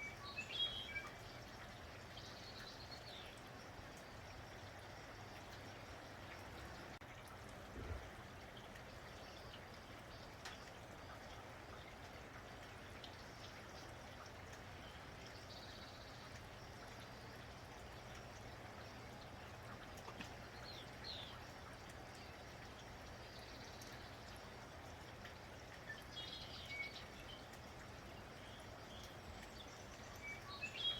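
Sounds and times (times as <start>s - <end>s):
faint rain falling: 0.0s - 30.9s
sharp drips: 0.0s - 30.9s.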